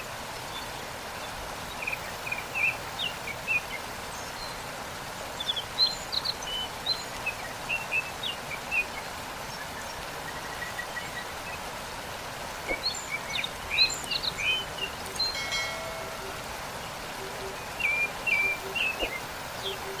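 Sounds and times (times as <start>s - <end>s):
waterfall rushing: 0.0s - 20.0s
songbirds chirping: 0.2s - 20.0s.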